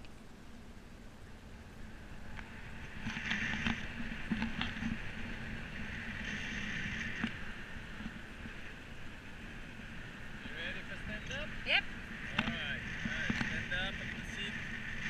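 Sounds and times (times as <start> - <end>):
wind rushing over microphone: 0.6 - 15.0.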